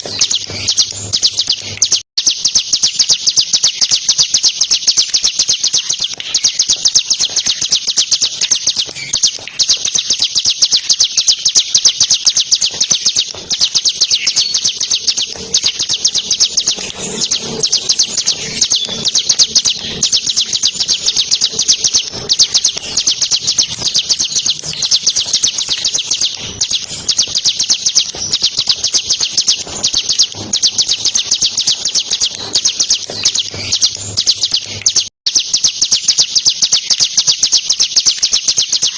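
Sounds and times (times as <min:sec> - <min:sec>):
bird singing rapid high trill: 0:00.0 - 0:38.9.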